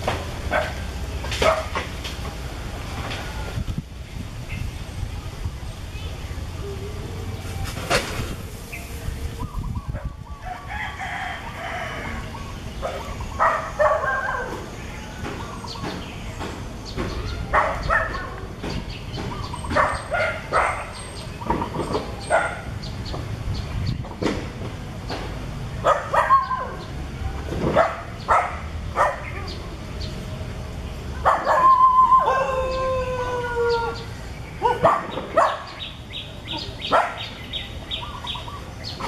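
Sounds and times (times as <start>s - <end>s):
outdoor background noise: 0.0s - 39.0s.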